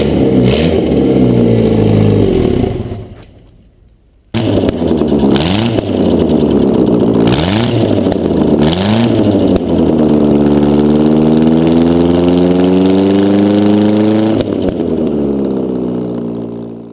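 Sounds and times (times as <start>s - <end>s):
petrol engine revving: 0.0s - 3.5s, 4.3s - 16.9s.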